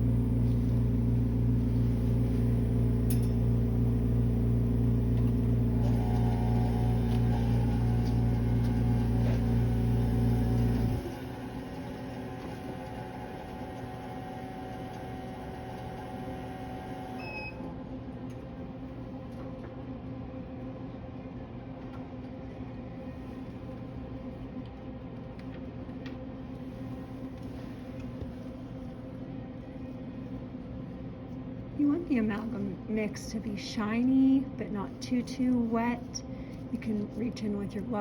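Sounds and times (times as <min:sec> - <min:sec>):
quiet background hum: 0:00.0 - 0:38.0.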